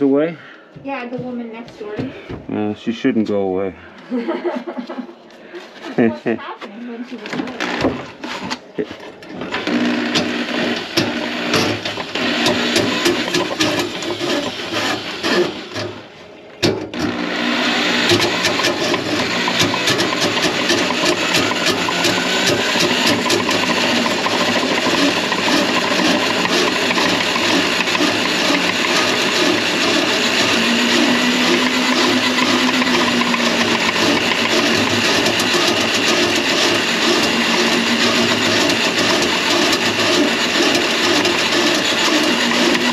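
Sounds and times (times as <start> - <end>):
drain-cleaning machine running: 7.4 - 8.4, 9.2 - 42.9.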